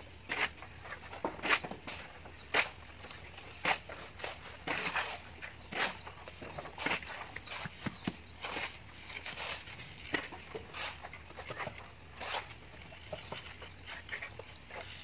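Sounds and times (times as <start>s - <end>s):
trowels scraping on wet render: 0.2s - 15.0s.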